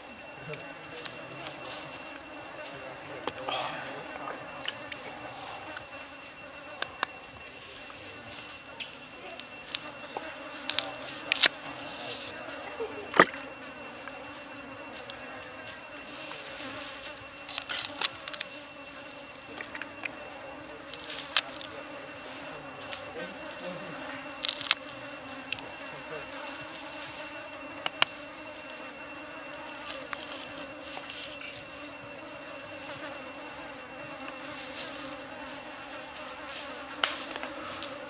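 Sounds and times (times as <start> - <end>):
insect drone: 0.0 - 38.0.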